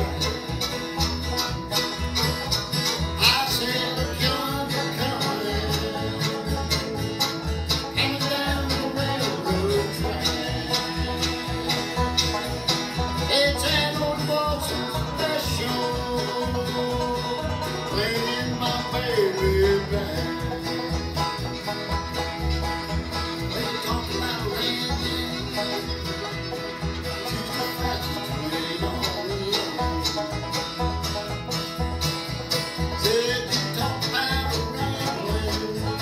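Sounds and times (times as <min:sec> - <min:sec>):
acoustic guitar: 0:00.0 - 0:36.0
banjo picking: 0:00.0 - 0:36.0
fiddle melody: 0:00.0 - 0:36.0
mandolin: 0:00.0 - 0:36.0
upright bass: 0:00.0 - 0:36.0.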